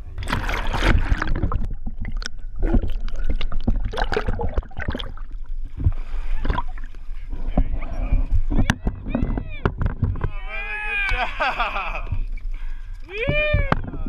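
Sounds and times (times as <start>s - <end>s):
steady low rumble: 0.0s - 14.0s
water splashing and gurgling: 0.0s - 14.0s.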